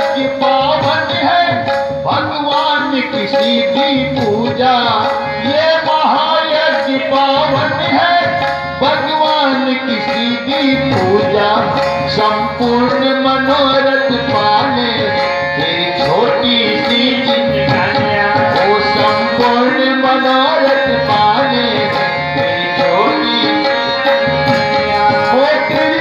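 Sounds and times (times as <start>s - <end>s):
hand drums: 0.0s - 26.0s
harmonium: 0.0s - 26.0s
person singing: 0.0s - 26.0s.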